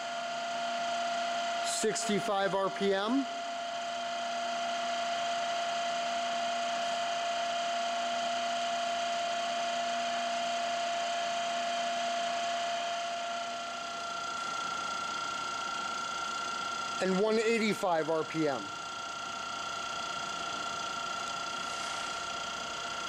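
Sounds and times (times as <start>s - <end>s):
drill spindle whine: 0.0s - 23.0s.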